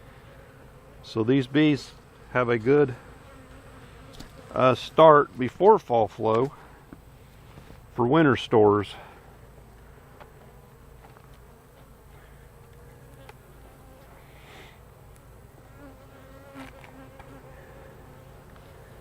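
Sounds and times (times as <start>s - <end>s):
bees humming: 0.0s - 5.9s, 7.0s - 19.0s.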